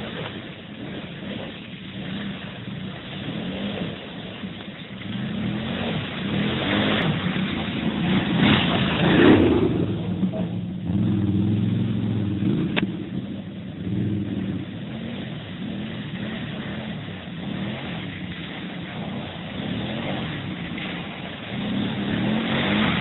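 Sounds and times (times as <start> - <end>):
quad bike engines revving: 0.0 - 23.0.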